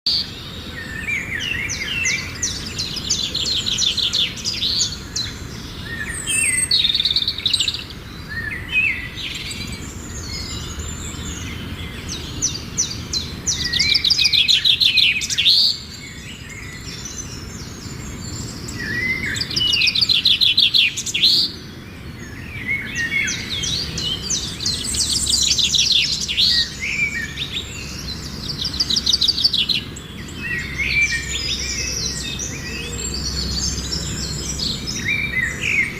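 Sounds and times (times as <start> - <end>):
songbirds trilling: 0.1 - 35.9.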